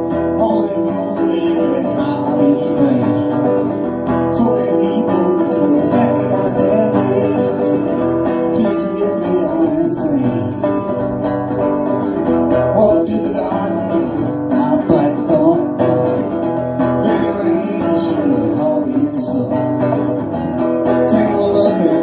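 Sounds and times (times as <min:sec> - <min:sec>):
electric guitar playing: 0:00.0 - 0:22.0.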